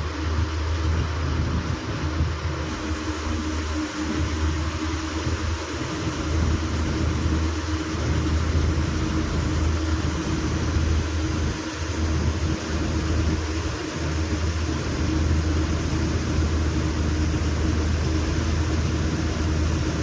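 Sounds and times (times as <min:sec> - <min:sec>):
combine harvester engine running: 0:00.0 - 0:20.0.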